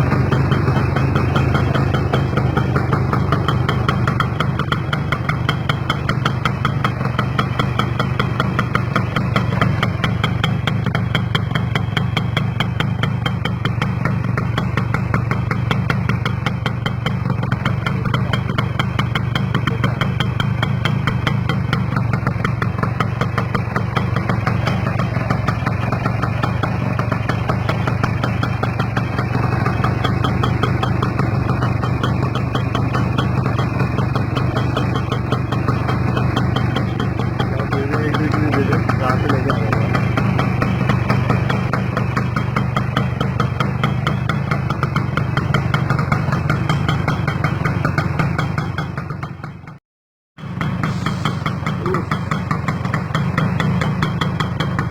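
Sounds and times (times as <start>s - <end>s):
motorcycle engine idling: 0.0s - 49.8s, 50.4s - 54.9s.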